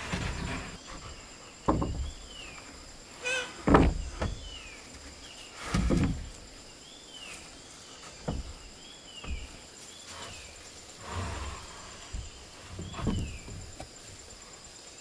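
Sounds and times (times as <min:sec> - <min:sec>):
dull thuds: 0:00.0 - 0:02.7, 0:03.6 - 0:06.6, 0:08.0 - 0:14.3
insects droning high-pitched: 0:00.0 - 0:15.0.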